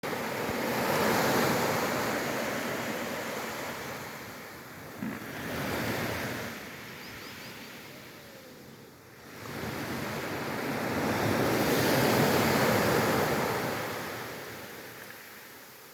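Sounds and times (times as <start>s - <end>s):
sea waves breaking on shore: 0.1s - 7.9s, 9.2s - 15.9s.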